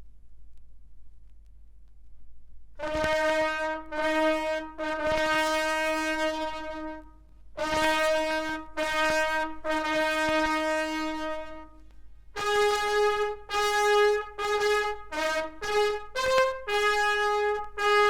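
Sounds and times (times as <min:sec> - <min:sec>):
bugle call: 0:02.8 - 0:11.8, 0:12.4 - 0:18.0.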